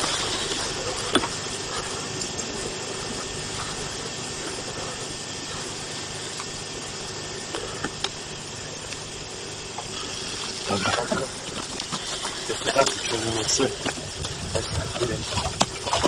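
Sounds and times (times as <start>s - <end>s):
outdoor microphone hiss: 0.0s - 16.0s.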